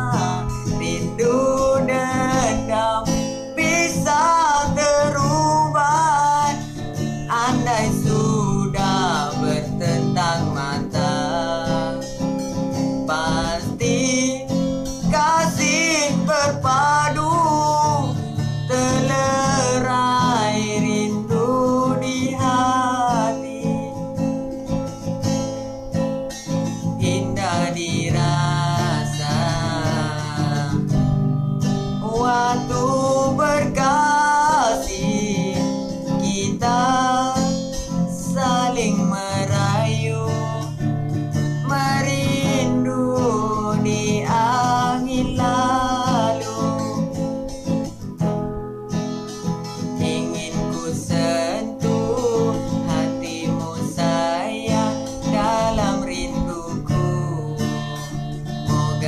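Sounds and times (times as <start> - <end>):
young man singing: 0.0 - 48.4, 49.0 - 59.0
acoustic guitar strumming: 0.0 - 59.0.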